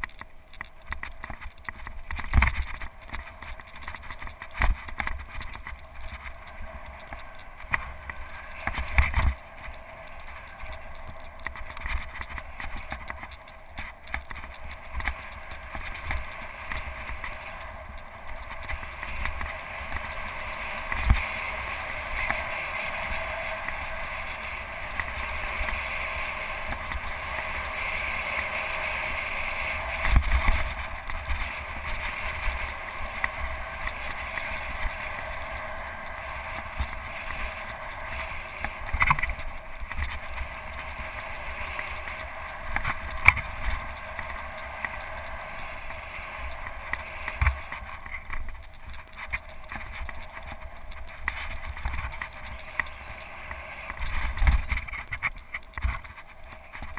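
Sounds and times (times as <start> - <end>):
wind rushing and tyres rolling: 0.0 - 56.9.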